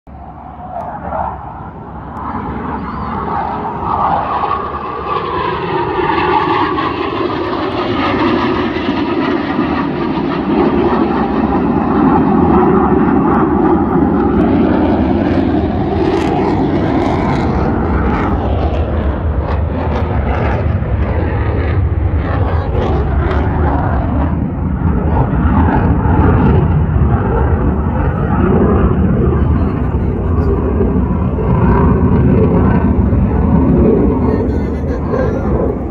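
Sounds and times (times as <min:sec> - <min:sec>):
jet fighters flying over: 0:00.1 - 0:35.9.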